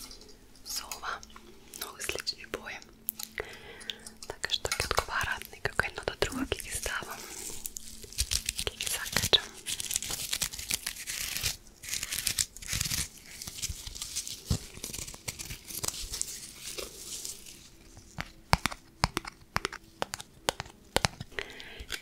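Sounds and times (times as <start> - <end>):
plastic packaging crinkling: 4.0 - 22.0.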